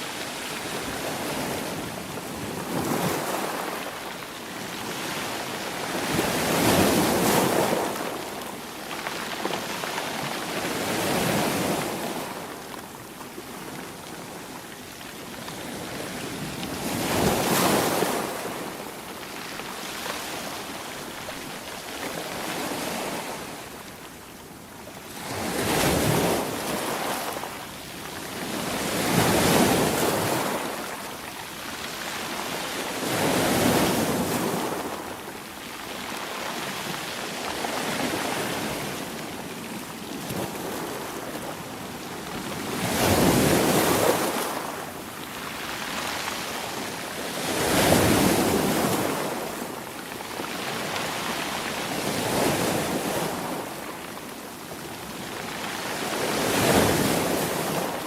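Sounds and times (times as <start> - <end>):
sea waves crashing on shore: 0.0 - 58.0.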